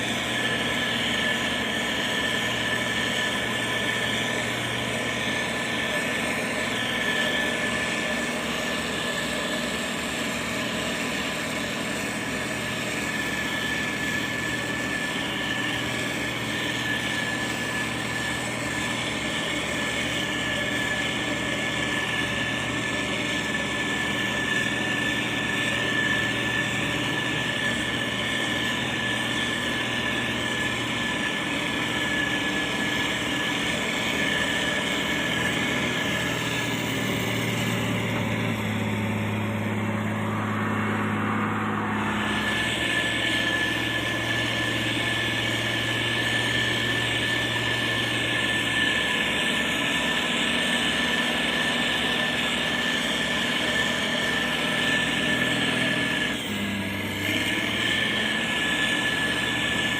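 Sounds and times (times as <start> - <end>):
heavy diesel machinery running: 0.0 - 59.9
thin high whine: 0.0 - 59.9.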